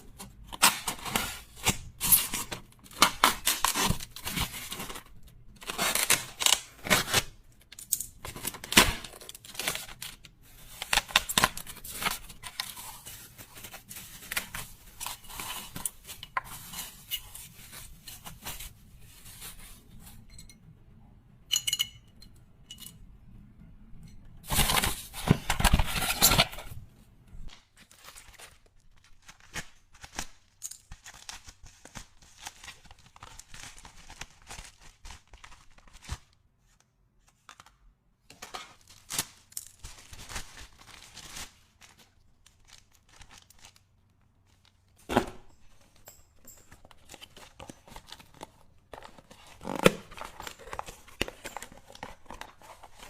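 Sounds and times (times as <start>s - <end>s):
packaging crinkling and rustling: 0.3s - 20.2s, 24.4s - 26.8s, 27.7s - 36.4s, 38.3s - 53.0s.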